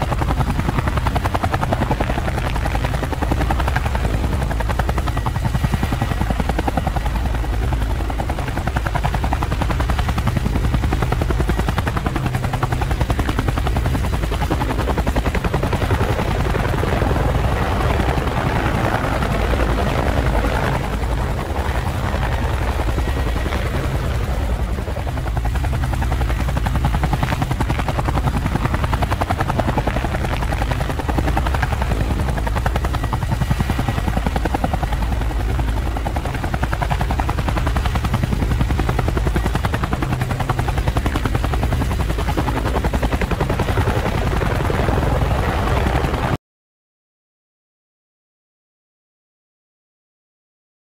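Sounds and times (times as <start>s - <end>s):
drone propellers whirring: 0.0s - 46.4s.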